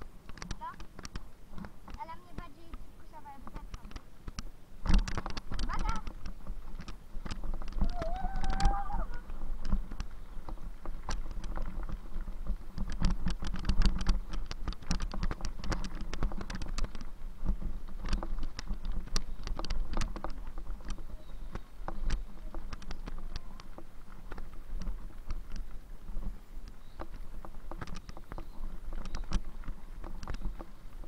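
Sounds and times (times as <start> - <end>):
bicycle clicks and rattles: 0.0 - 31.0
bicycle rumbling: 0.0 - 31.0.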